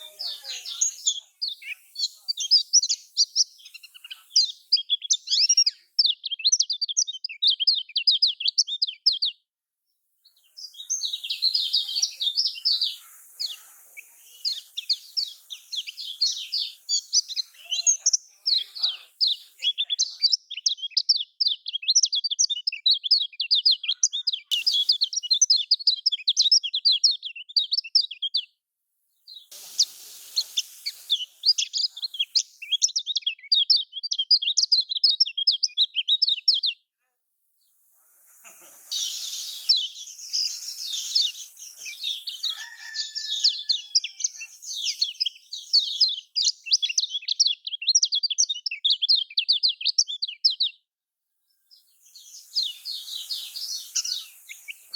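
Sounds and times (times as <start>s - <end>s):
bird chattering song: 0.0s - 9.4s, 10.4s - 28.5s, 29.3s - 36.8s, 38.1s - 50.8s, 51.7s - 54.9s.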